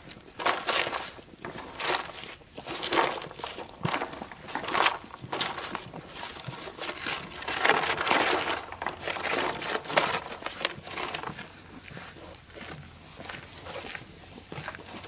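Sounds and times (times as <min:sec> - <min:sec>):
horse chewing feed: 0:00.0 - 0:15.0.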